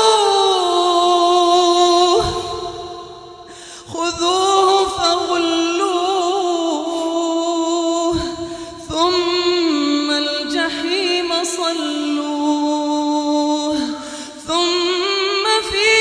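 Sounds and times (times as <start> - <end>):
person chanting recitation: 0.0 - 16.0.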